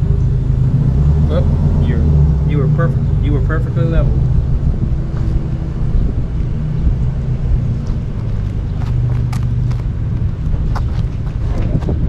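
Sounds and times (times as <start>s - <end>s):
motorhome engine idling: 0.0s - 12.0s.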